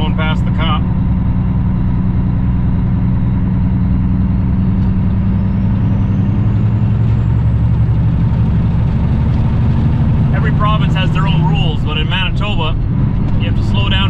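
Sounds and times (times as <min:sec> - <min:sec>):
road noise: 0:00.0 - 0:14.0
truck diesel engine drone: 0:00.0 - 0:14.0.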